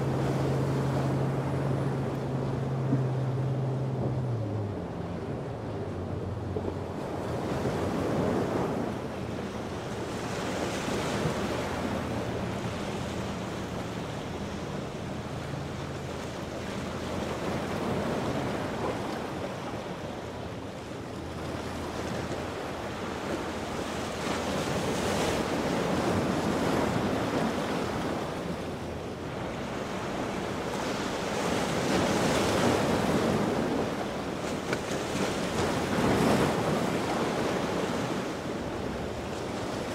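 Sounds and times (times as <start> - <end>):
faint boat engine hum: 0.0 - 39.9.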